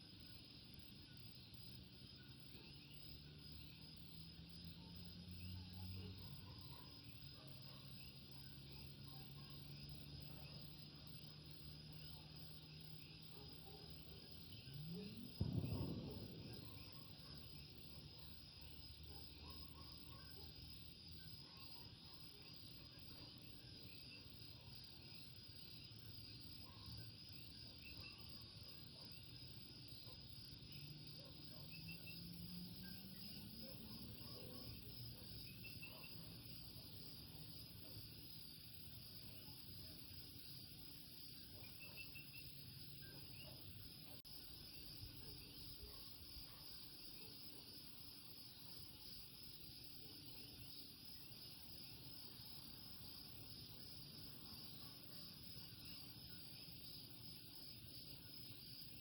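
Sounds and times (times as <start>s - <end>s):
high insect hum: 0.0s - 59.0s.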